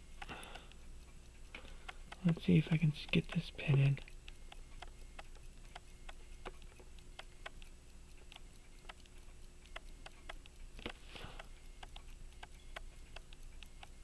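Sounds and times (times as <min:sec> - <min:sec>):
clock ticking: 0:00.0 - 0:14.0.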